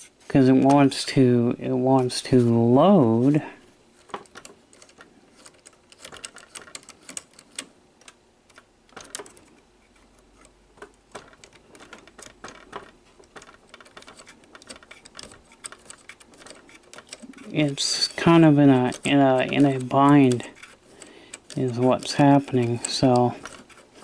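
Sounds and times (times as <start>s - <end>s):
small mechanism clicks and ticks: 4.0s - 24.0s.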